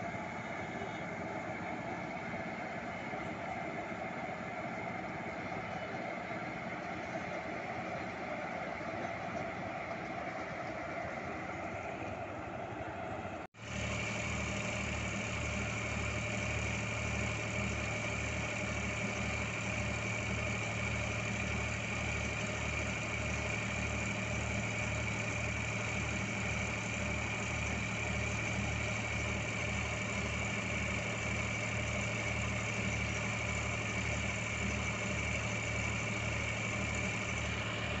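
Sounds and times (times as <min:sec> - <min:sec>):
diesel locomotives idling: 0:00.0 - 0:38.0
steady high whine: 0:00.0 - 0:38.0.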